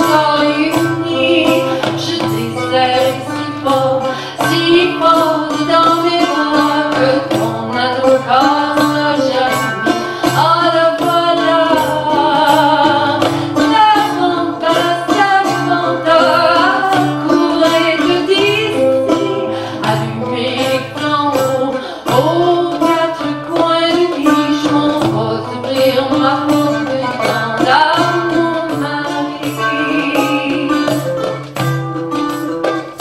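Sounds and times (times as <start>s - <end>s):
woman singing a folk ballad: 0.0s - 31.6s
hand drum rhythm: 0.0s - 33.0s.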